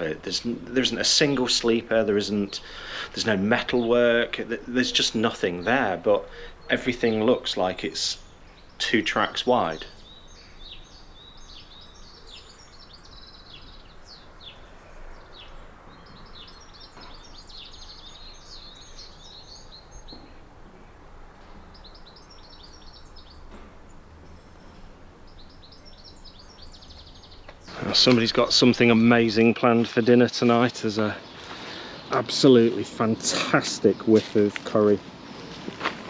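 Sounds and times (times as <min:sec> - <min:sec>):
distant town hum: 0:00.0 - 0:29.5
small songbirds chirping: 0:00.0 - 0:34.3.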